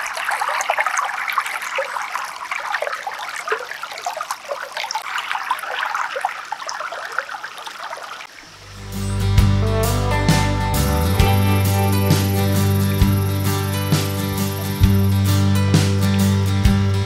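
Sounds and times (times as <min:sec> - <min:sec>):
creek trickling: 0:00.0 - 0:15.4.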